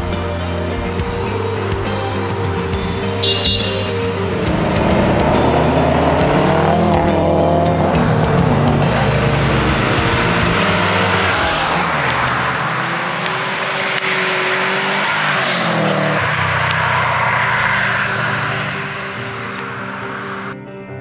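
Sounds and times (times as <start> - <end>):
cars driving past revving: 1.2 - 20.6.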